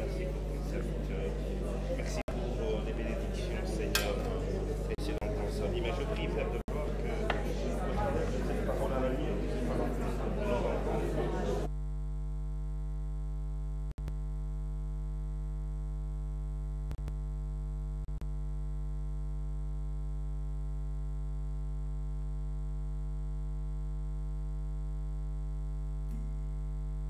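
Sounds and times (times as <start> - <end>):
low electrical buzzing hum: 0.0 - 27.0.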